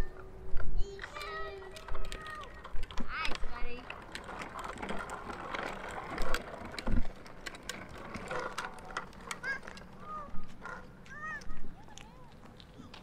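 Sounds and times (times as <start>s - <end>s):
bicycle rattling and clicking: 0.0s - 13.0s
bicycle tyres rolling on asphalt: 0.0s - 13.0s.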